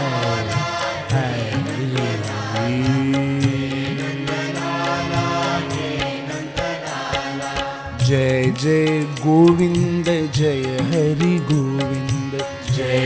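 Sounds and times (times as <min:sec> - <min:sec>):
devotional song melody with vibrato: 0:00.0 - 0:13.0
steady percussion beat: 0:00.0 - 0:13.0.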